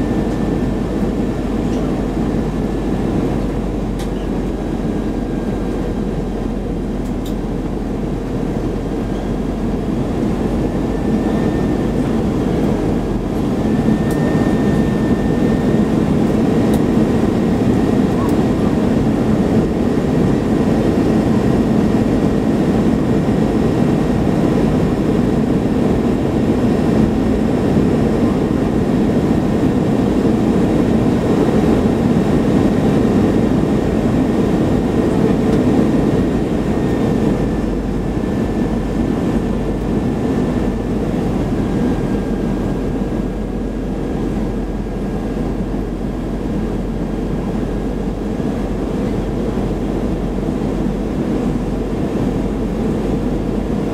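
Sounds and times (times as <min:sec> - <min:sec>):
engine and airflow rumble: 0:00.0 - 0:53.9.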